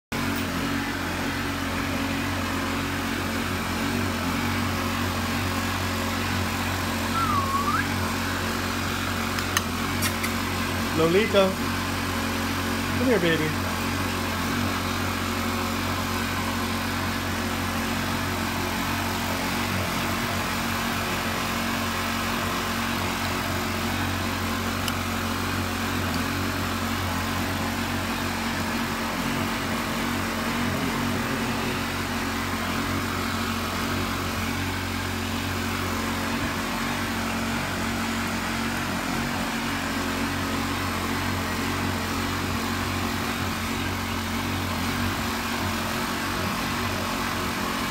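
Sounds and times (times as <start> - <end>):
small engine running: 0.0 - 47.9.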